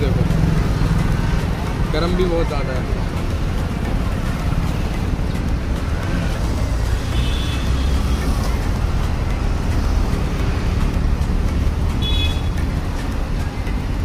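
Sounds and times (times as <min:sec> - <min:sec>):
busy road traffic rumble: 0:00.0 - 0:14.0.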